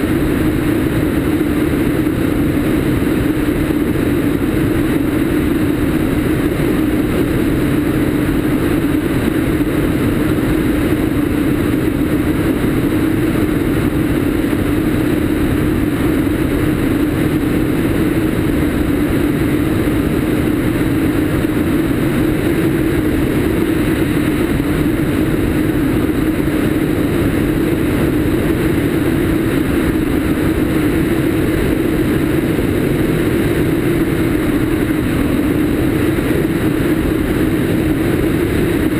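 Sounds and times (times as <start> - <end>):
airflow rushing: 0.0 - 38.9
light aircraft engine and propeller: 0.0 - 38.9.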